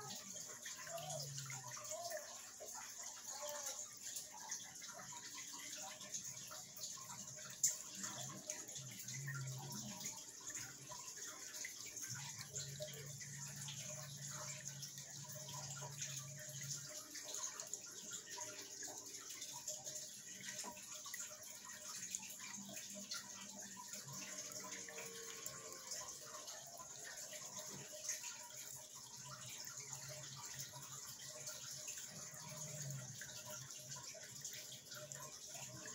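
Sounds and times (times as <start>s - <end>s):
water splashing and trickling: 0.0s - 35.9s.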